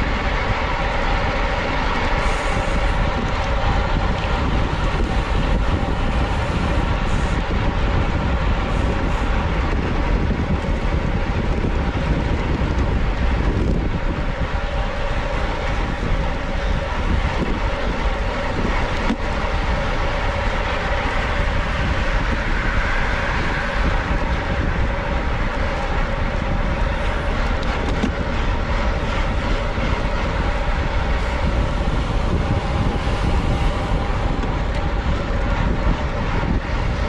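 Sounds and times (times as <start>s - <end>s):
road rumble: 0.0s - 37.0s
wind buffeting microphone: 0.0s - 37.0s.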